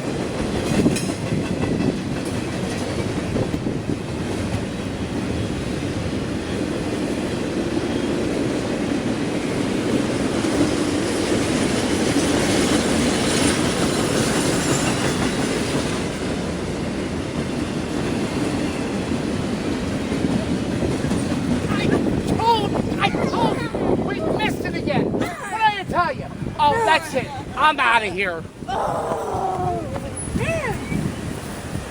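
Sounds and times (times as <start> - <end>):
train rumbling over rails: 0.0 - 31.9.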